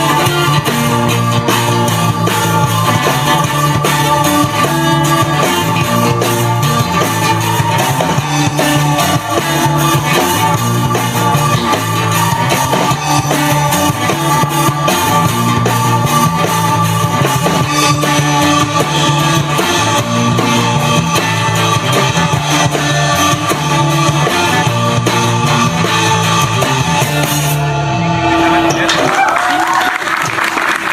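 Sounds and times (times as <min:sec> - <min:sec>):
rock band playing: 0:00.0 - 0:30.9.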